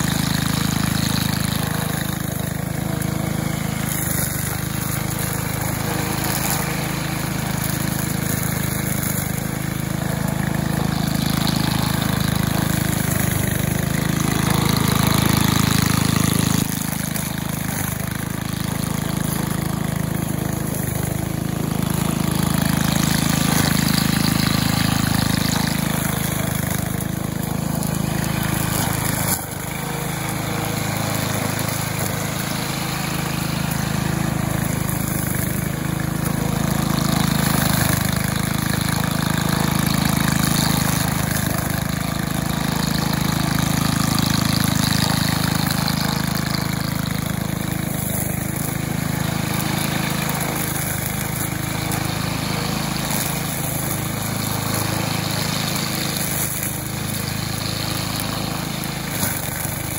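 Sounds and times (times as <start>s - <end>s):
string trimmer engine running: 0.0s - 59.9s.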